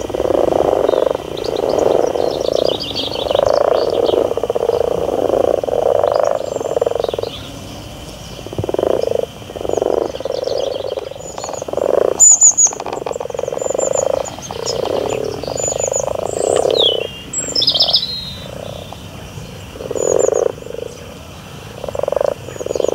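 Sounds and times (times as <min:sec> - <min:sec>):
birds chirping: 0:00.0 - 0:22.9
frogs croaking: 0:00.0 - 0:22.9.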